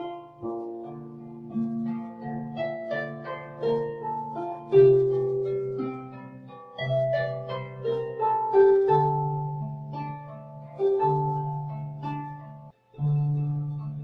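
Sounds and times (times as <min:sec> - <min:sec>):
harp melody: 0:00.0 - 0:14.0
low sustained bass notes: 0:00.0 - 0:14.0.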